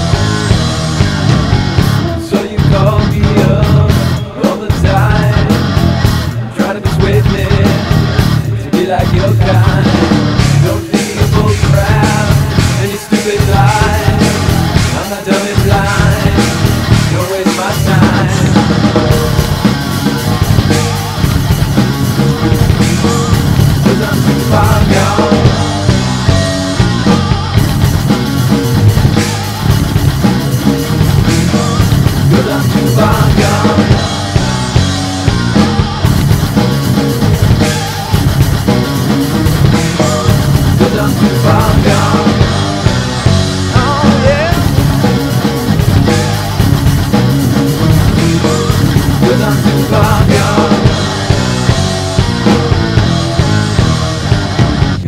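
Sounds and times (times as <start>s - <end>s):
metal song: 0.0s - 55.0s.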